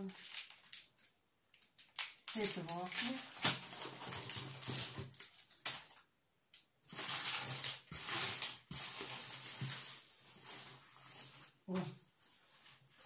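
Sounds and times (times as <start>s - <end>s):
packaging rustling and crinkling: 0.0s - 6.1s, 6.9s - 13.0s.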